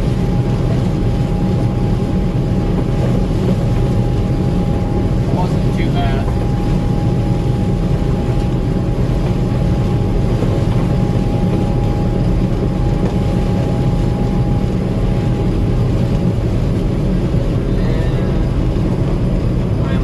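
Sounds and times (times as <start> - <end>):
combine harvester drone: 0.0 - 20.0
thin steady whine: 0.0 - 20.0.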